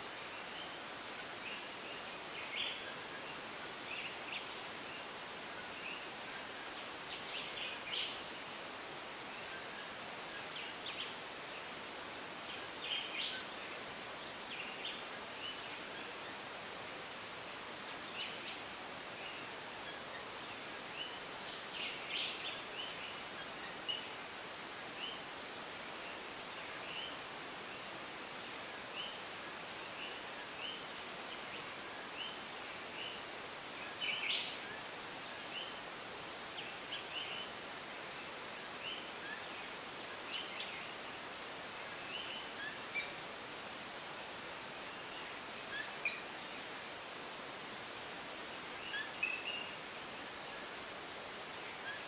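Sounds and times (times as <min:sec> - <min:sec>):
steady rainforest hiss: 0:00.0 - 0:52.0.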